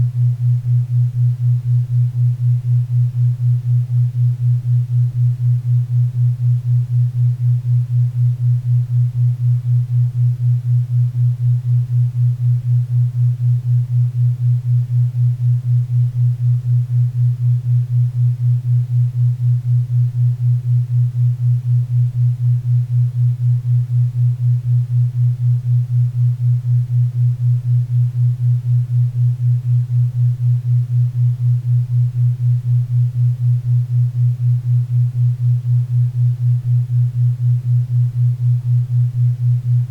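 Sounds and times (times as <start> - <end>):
pulsing low hum tone: 0.0 - 39.9.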